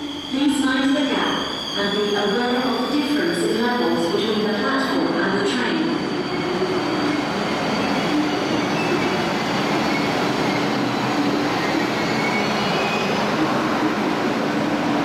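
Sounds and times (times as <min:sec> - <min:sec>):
electric train slowing to a stop: 0:00.0 - 0:15.0.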